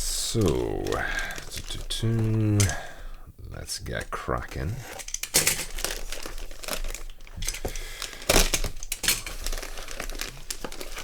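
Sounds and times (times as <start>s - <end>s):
packaging crinkling and rustling: 0.0s - 11.0s
packaging ripping: 0.0s - 11.0s.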